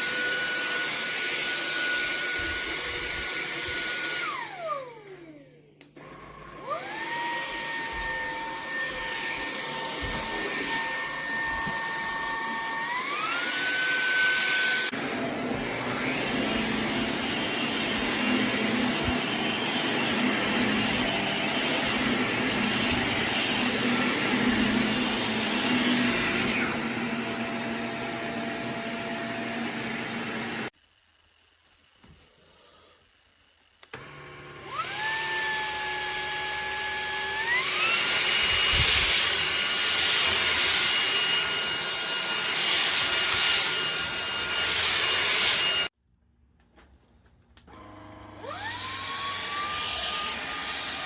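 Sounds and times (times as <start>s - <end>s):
vacuum cleaner motor whine: 0.0s - 30.7s, 33.8s - 45.9s, 47.7s - 51.0s.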